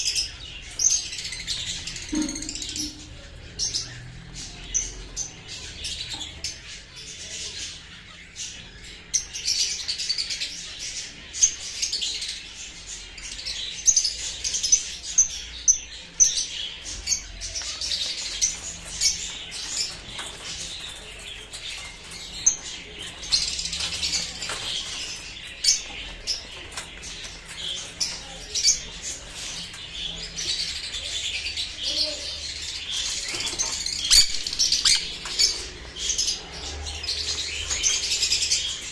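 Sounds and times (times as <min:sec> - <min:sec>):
parrots chirping and squawking: 0:00.0 - 0:38.9.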